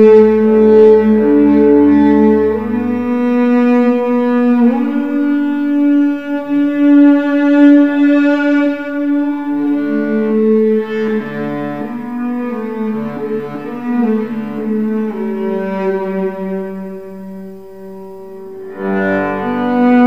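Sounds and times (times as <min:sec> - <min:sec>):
bowed cello notes: 0:00.0 - 0:20.0.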